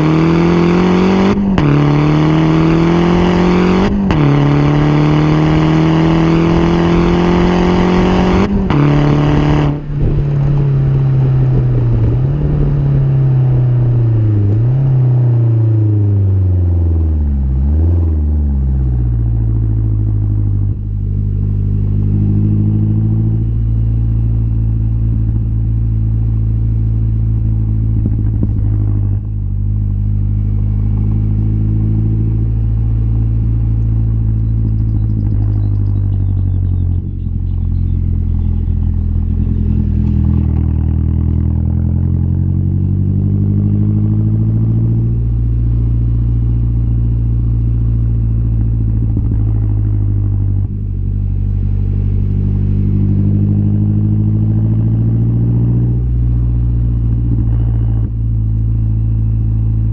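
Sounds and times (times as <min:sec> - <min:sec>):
car exhaust droning: 0:00.0 - 0:59.9.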